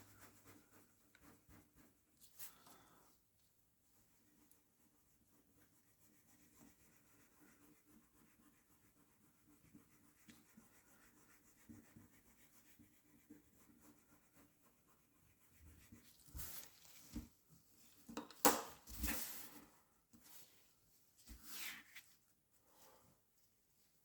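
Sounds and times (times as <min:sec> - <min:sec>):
faint rubbing strokes: 0:00.0 - 0:18.1, 0:18.9 - 0:24.0.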